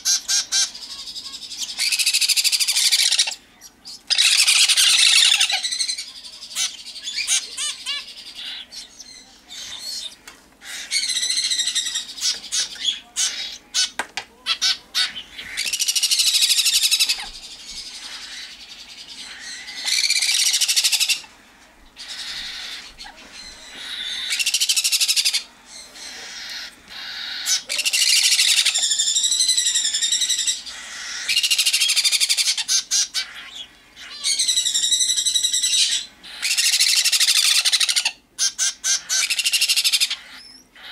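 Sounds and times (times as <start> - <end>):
baby parrots squealing: 0.0 - 21.3, 22.0 - 40.9.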